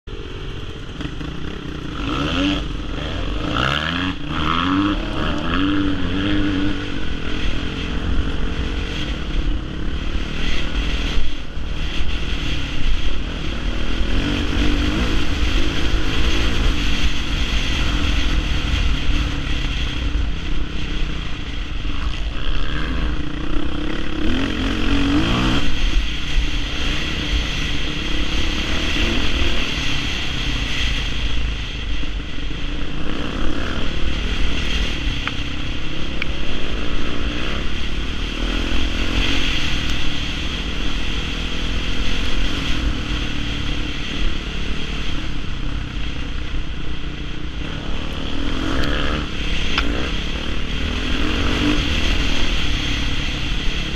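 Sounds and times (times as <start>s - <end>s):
constant low rumble: 0.0s - 53.9s
dirt bike engine revving: 0.1s - 53.9s.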